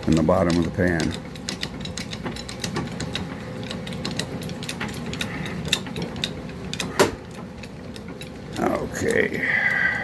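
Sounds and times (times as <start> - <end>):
jack clicking and ratcheting: 0.0 - 10.0.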